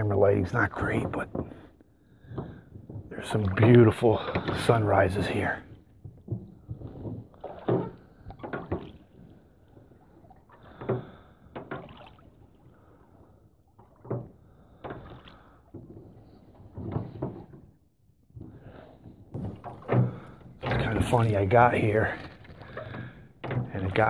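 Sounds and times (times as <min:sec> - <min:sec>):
oars knocking and creaking: 0:00.0 - 0:24.0
water swishing off oars: 0:00.0 - 0:24.0.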